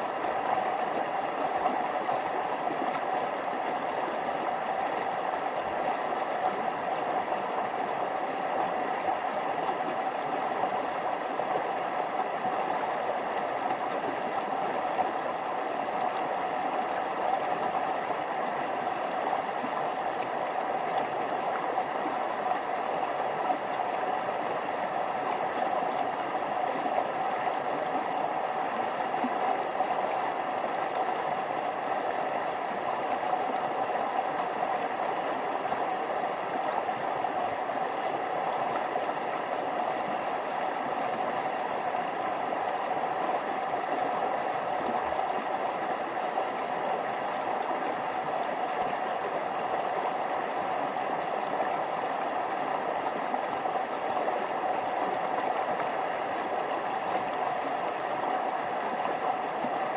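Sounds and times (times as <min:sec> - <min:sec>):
stream flowing over small waterfalls: 0:00.0 - 0:59.9.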